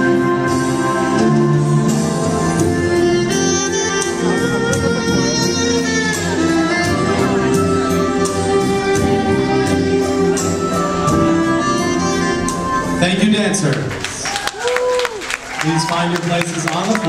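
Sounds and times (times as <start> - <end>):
waltz music: 0.0 - 14.0.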